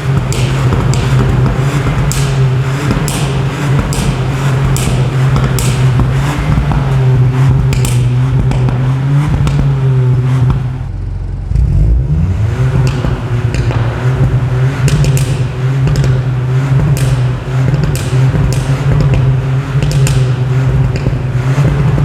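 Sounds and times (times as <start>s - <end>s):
car engine high steady note: 0.0s - 22.0s.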